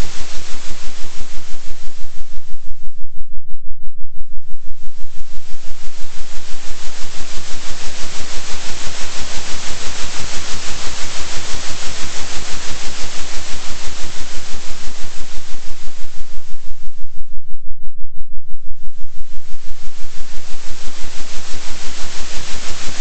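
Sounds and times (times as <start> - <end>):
pulsing synthetic noise hiss: 0.0 - 2.9, 4.5 - 17.1, 18.8 - 23.0
steady low hum: 0.0 - 23.0.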